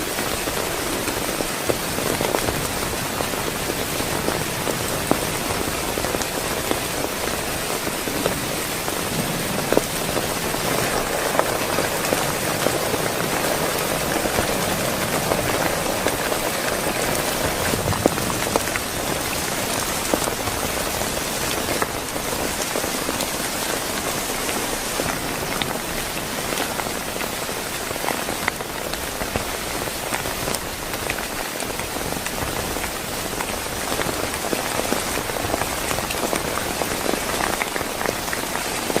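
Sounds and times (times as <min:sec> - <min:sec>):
heavy rain falling: 0:00.0 - 0:39.0
sharp raindrop impacts: 0:00.0 - 0:39.0.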